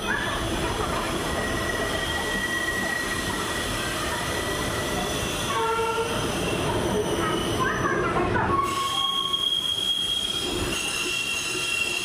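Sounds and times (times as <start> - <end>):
train wheels running on rails: 0.0 - 12.0
high wheel squeal: 1.2 - 3.8, 4.4 - 12.0.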